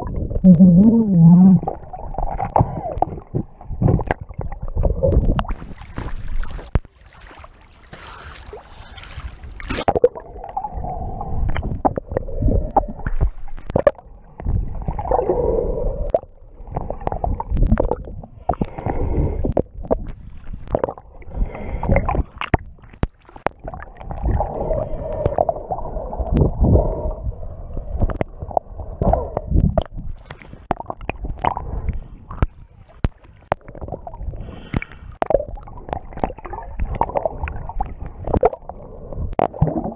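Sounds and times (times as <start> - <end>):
muffled water sloshing underwater: 0.0 - 39.9.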